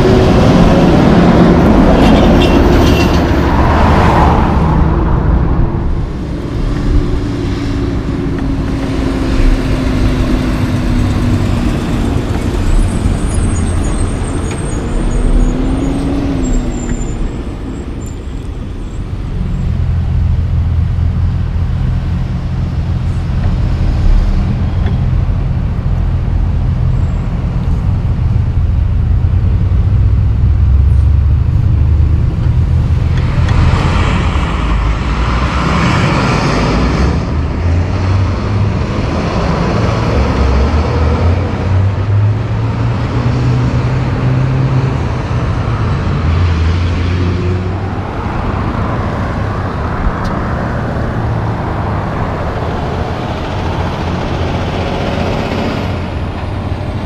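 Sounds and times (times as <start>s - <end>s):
vehicle rushing past: 0.0s - 20.6s, 21.2s - 57.0s
truck engine rumble: 0.0s - 57.0s.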